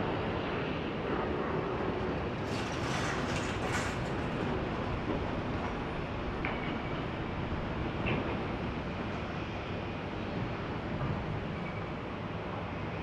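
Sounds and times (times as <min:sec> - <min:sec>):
jet engines rumbling: 0:01.2 - 0:12.8.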